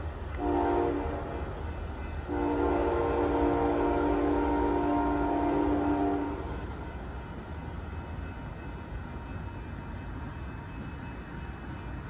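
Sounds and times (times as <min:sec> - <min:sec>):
distant train wheels rumbling on rail: 0:00.0 - 0:12.0.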